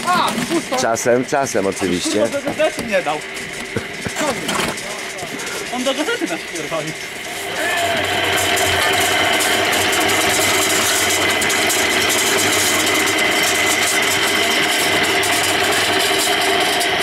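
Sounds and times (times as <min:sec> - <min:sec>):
concrete mixer running: 0:00.0 - 0:17.0.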